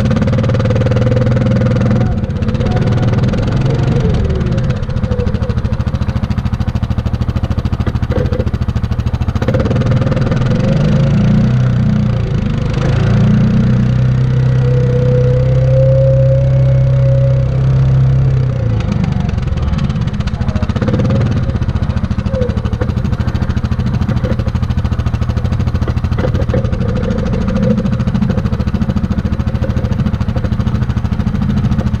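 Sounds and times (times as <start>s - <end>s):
atv engine idling: 0.0s - 32.0s.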